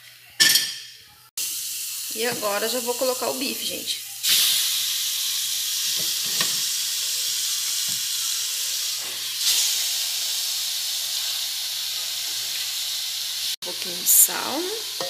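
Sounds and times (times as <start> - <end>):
meat sizzling in hot oil: 1.4 - 15.0.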